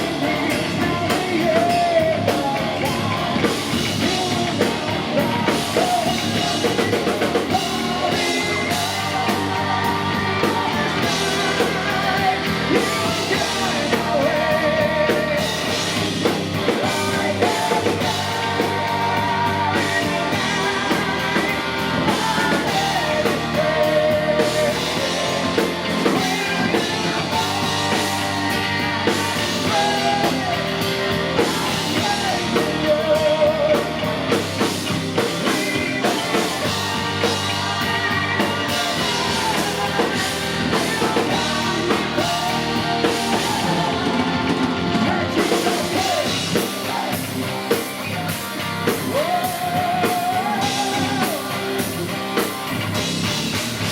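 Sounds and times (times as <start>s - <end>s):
singer with vibrato: 0.0s - 51.8s
distorted electric guitars: 0.0s - 53.9s
drum kit: 0.0s - 53.9s.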